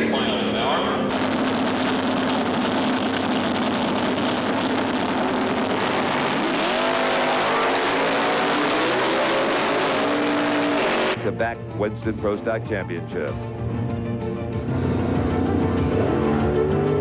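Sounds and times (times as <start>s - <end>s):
drag race car engines roaring: 0.0s - 12.6s, 14.6s - 17.0s.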